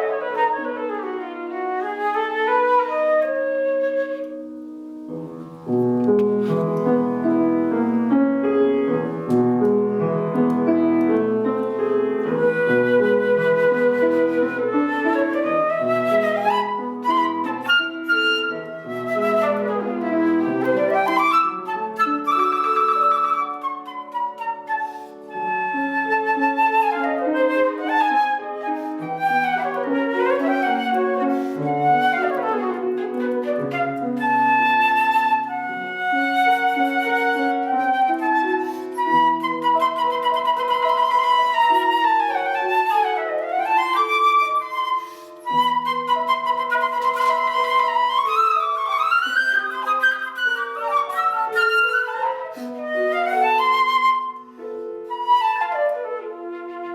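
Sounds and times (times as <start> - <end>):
flute melody: 0.0 - 56.9
piano accompaniment: 0.0 - 56.9.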